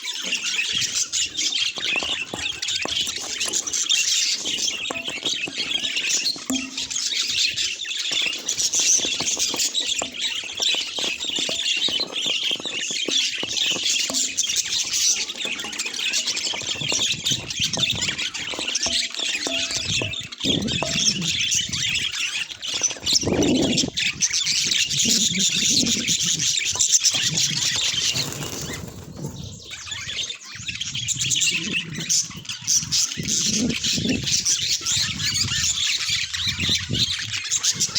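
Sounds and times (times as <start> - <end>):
budgerigars chattering: 0.0 - 37.9.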